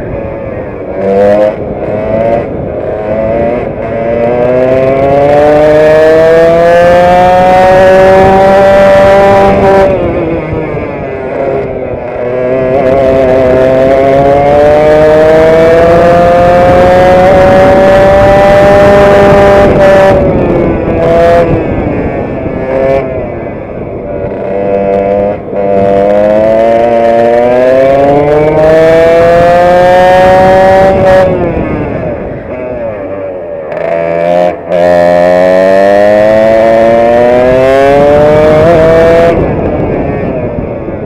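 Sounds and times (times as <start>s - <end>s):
kart engine at full throttle: 0.0s - 41.0s.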